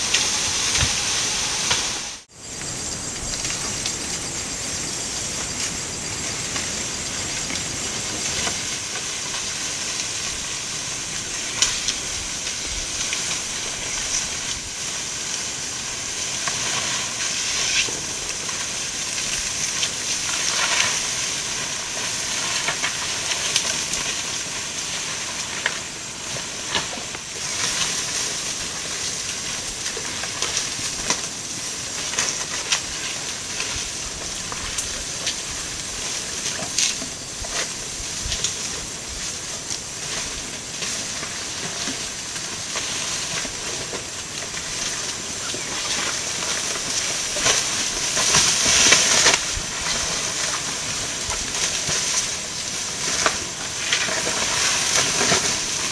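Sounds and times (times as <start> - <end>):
high-pitched hiss: 0.0 - 55.9.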